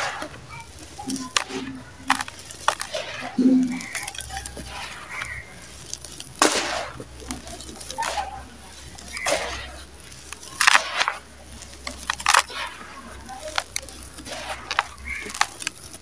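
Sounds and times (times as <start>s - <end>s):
grainy crunching of sand mix: 0.0s - 16.0s
rustle of falling sand: 0.0s - 16.0s.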